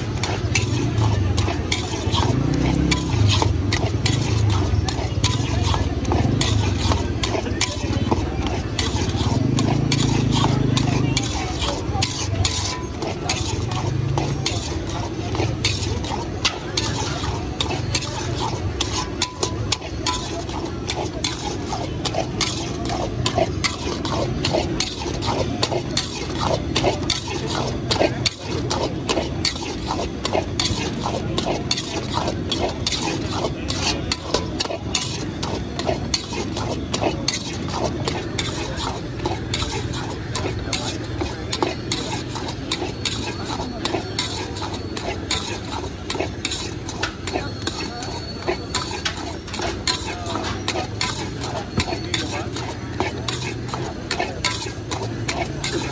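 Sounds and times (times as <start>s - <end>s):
metal spatula scraping a wok: 0.0s - 55.9s.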